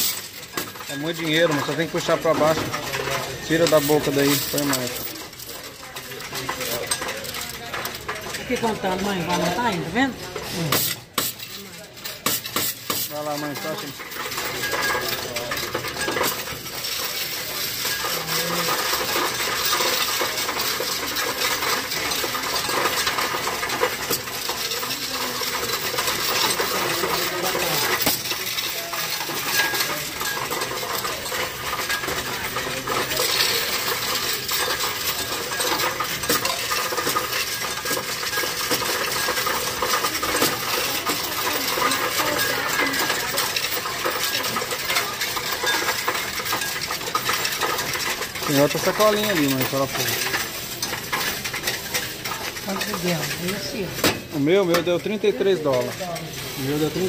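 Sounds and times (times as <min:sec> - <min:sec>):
coins rattling through counting machine: 0:00.0 - 0:57.0.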